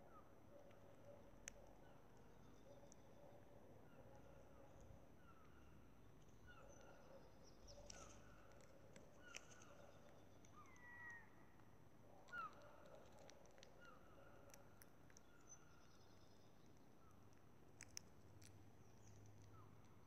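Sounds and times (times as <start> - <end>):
grackle chirps and squeaks: 0.1 - 20.0.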